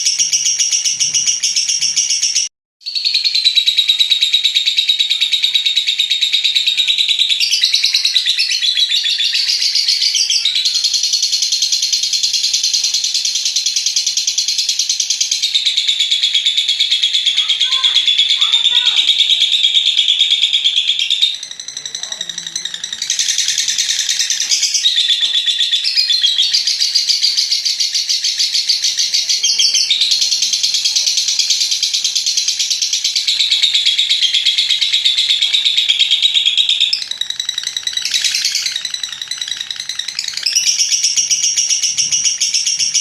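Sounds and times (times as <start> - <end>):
lovebird chattering trill: 0.0 - 43.0.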